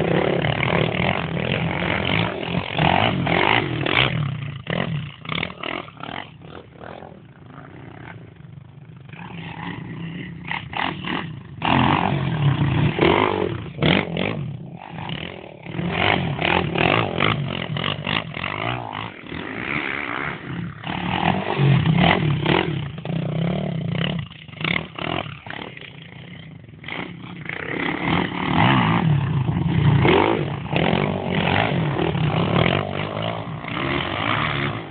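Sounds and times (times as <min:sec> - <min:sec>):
quad bike engine revving: 0:00.0 - 0:34.9.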